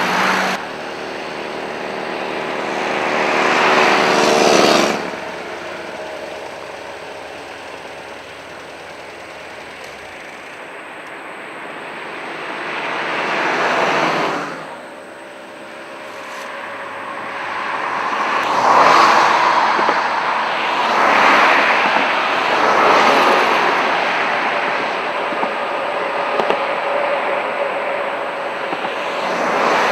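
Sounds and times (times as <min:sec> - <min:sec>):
motor vehicles passing close by: 0:00.0 - 0:29.9.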